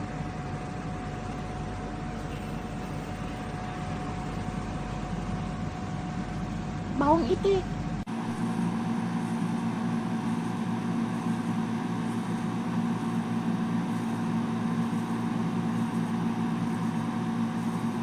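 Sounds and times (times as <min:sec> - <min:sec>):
fan rushing: 0:01.6 - 0:18.0
air conditioner humming: 0:01.8 - 0:18.0.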